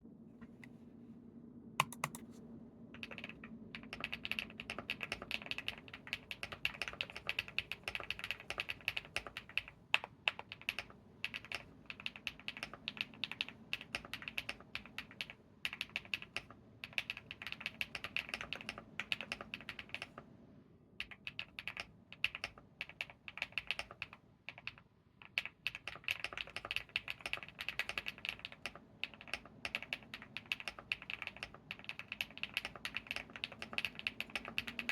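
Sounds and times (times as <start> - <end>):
typing on mechanical keyboard: 1.8 - 2.3, 3.0 - 20.2, 21.0 - 34.9.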